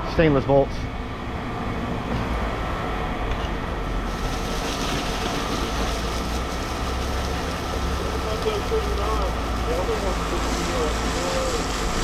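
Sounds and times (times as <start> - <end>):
faint constant whine: 0.0 - 12.0
heavy machinery rumbling: 0.7 - 12.0.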